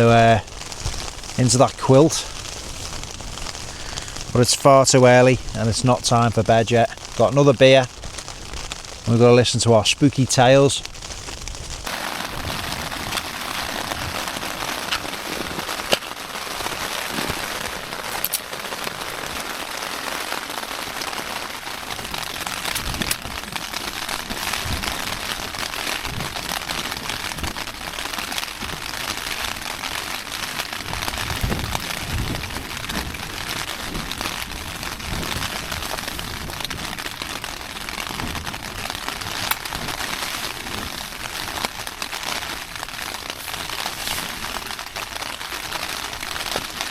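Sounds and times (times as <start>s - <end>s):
heavy rain on a tent: 0.0s - 46.9s.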